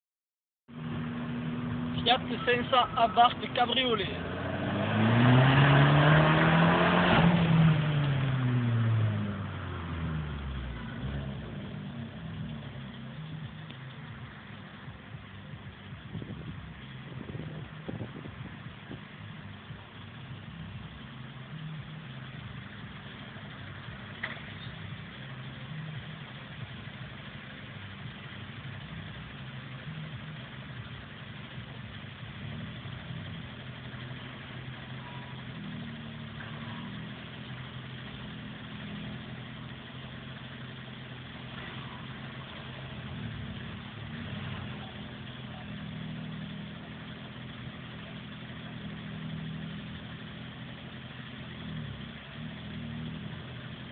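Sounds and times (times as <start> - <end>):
car engine at low revs: 0.7 - 53.9.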